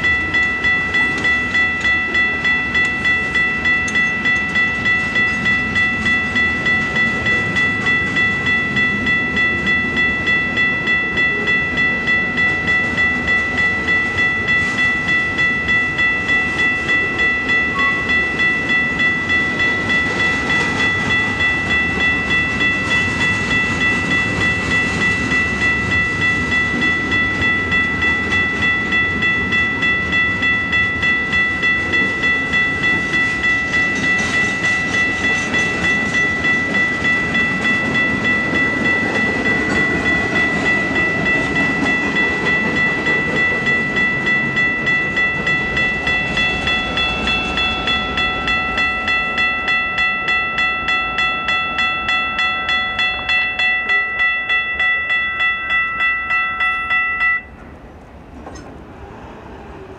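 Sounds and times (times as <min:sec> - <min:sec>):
crossing warning bell ringing: 0:00.0 - 0:57.8.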